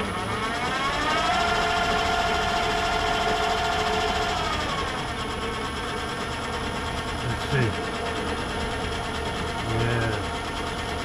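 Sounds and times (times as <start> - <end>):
lathe gear hum: 0.0 - 11.0
lathe whine: 0.0 - 11.0.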